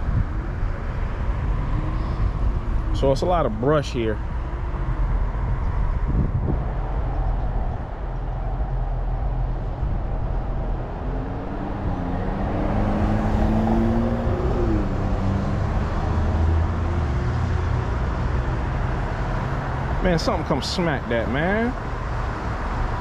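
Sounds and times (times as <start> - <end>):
passing vehicle engine: 0.0 - 23.0
traffic rumble: 0.0 - 23.0.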